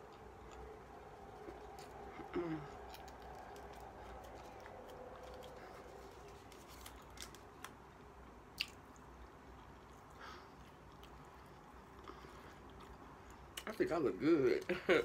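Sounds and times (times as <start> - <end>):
faint chewing: 0.0 - 13.8.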